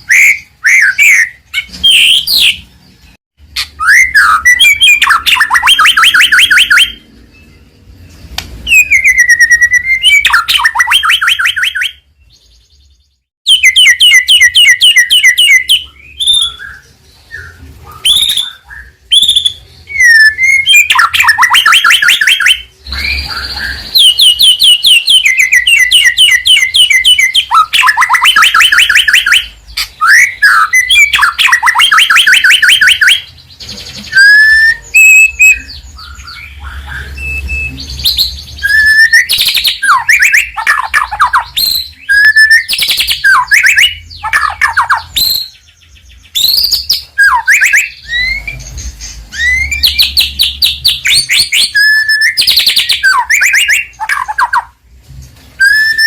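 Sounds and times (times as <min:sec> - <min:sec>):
songbird singing loudly: 0:00.0 - 0:54.8, 0:55.5 - 0:56.0.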